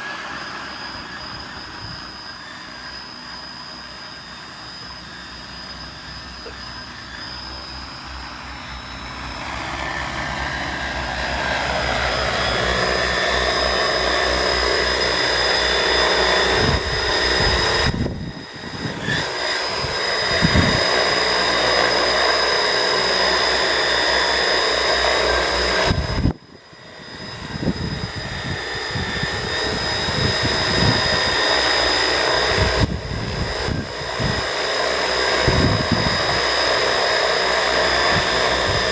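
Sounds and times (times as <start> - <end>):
drone rotors humming: 0.0 - 38.9.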